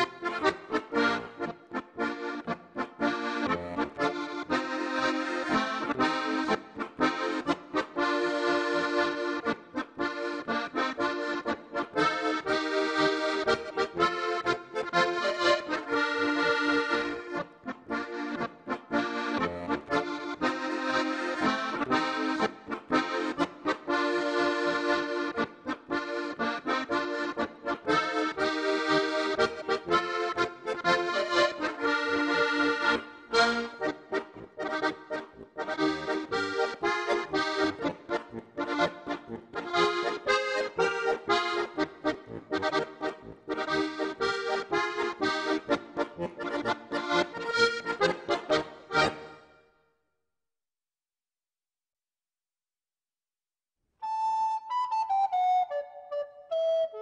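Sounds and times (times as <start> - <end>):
accordion folk music: 0.0 - 49.9, 54.0 - 57.0.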